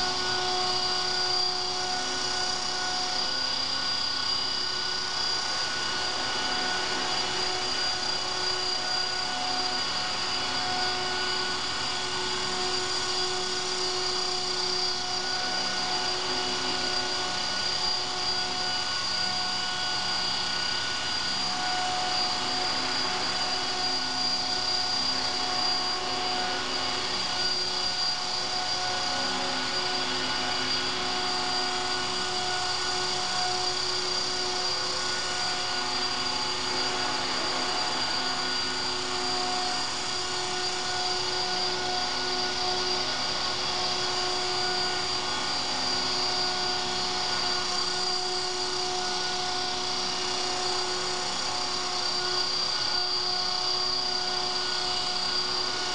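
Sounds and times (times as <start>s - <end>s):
rc helicopter motor whine: 0.0s - 55.9s.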